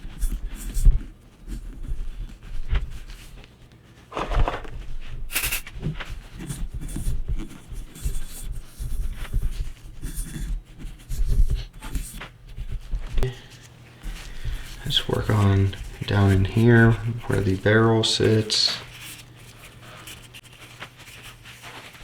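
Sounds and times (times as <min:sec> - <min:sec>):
scrubbing and rubbing noises: 0:00.0 - 0:22.0.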